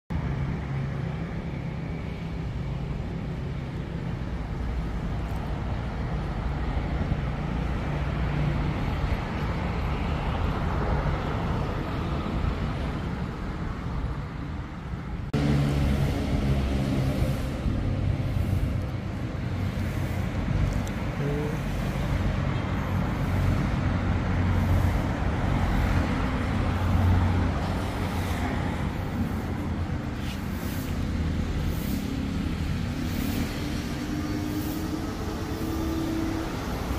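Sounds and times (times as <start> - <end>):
low engine hum: 0.1 - 36.9
road traffic passing: 0.1 - 36.9.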